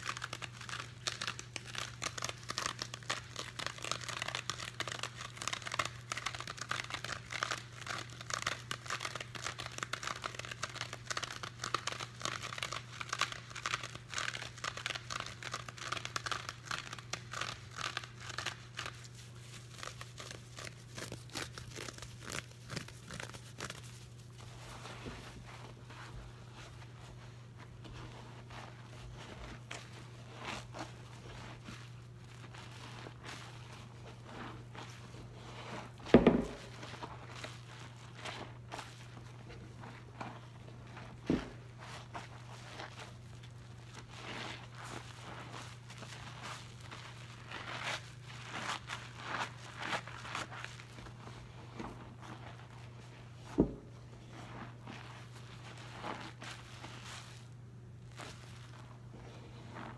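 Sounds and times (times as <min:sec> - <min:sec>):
wet sponge tearing and crackling: 0:00.0 - 0:59.9.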